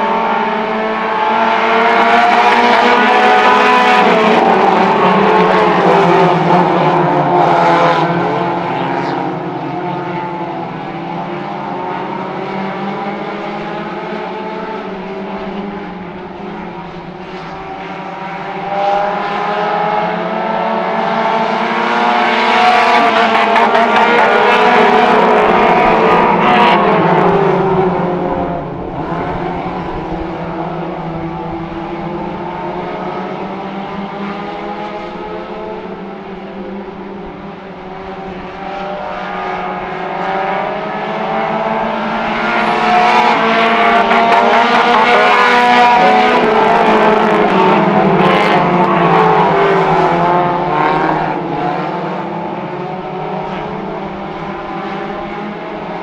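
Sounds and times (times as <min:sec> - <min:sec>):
race car engines running hard: 0:00.0 - 0:56.0.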